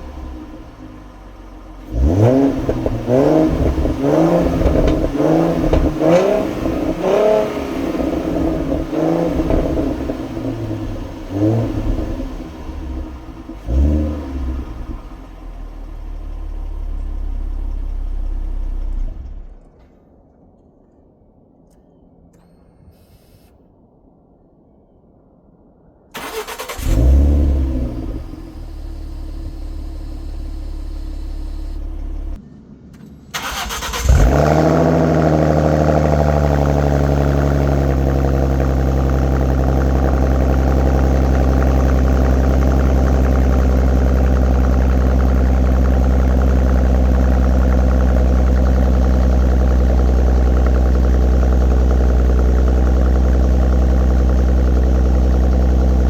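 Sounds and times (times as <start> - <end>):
car engine starting and idling: 0.0 - 20.0, 26.2 - 56.0.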